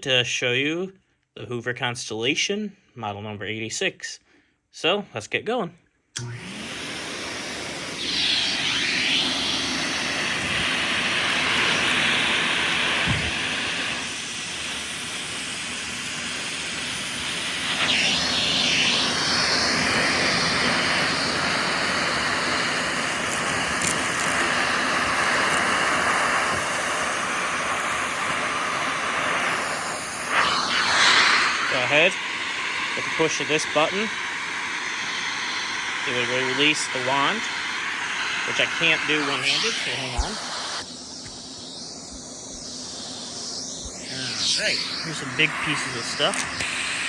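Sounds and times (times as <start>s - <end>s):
vacuum cleaner running: 6.2s - 47.0s.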